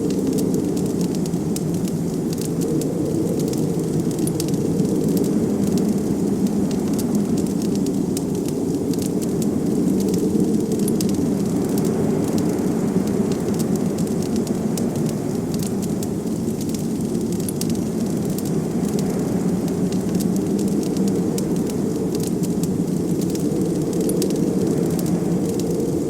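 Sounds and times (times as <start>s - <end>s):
blizzard wind: 0.0s - 26.0s
wood fire crackling and popping: 0.0s - 26.0s.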